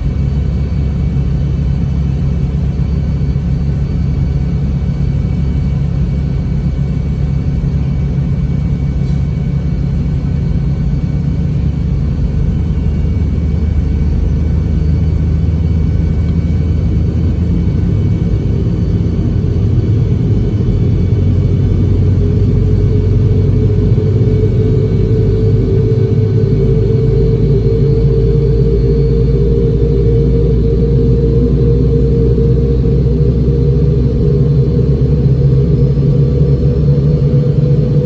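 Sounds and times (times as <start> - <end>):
airplane cabin rumble: 0.0 - 38.0
faint steady whines: 0.0 - 38.0
low hum: 0.0 - 38.0.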